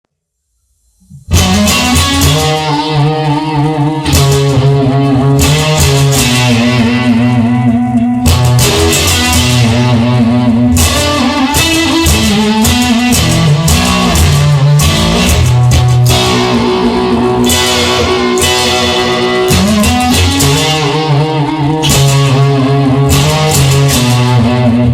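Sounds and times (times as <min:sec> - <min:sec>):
bass guitar: 0:01.0 - 0:24.9
strummed electric guitar chords: 0:01.0 - 0:24.9.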